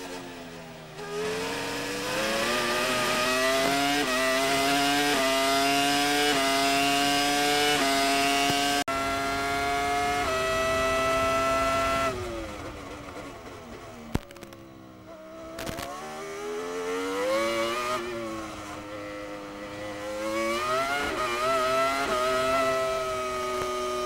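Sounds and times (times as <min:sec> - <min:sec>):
racing car engine revving: 0:01.0 - 0:12.4, 0:15.6 - 0:24.0.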